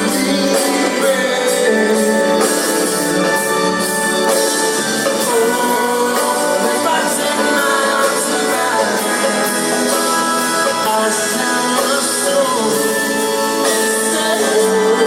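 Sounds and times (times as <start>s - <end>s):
live rock band playing: 0.0s - 15.0s
sliding lead guitar line: 0.0s - 15.0s.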